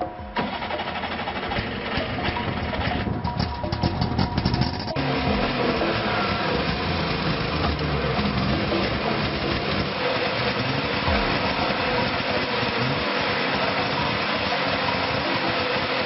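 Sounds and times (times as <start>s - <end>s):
old truck engine running: 0.0s - 16.0s.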